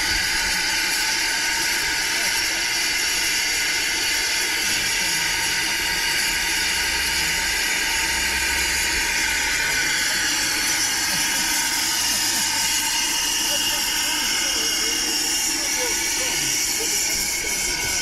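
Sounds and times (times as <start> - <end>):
steam hissing from locomotive: 0.0 - 18.0.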